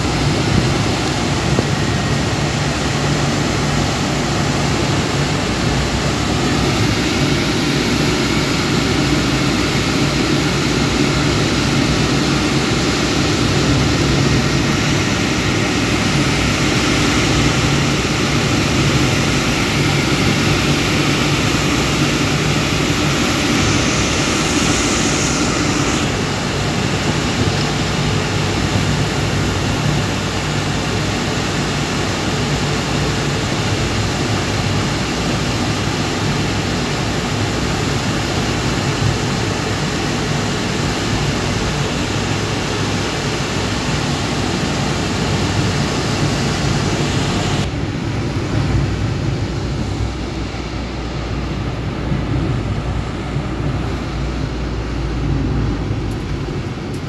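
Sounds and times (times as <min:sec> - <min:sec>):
car engine hum: 0:00.0 - 0:57.0
road and tyre noise: 0:00.0 - 0:57.0.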